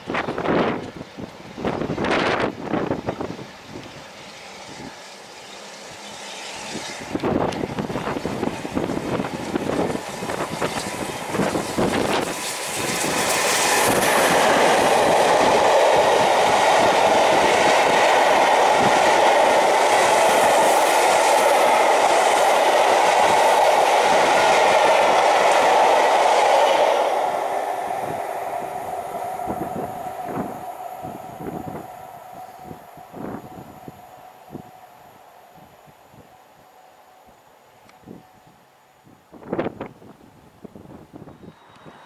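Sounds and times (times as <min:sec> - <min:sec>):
train wheels rattling over rails: 0:00.2 - 0:34.0.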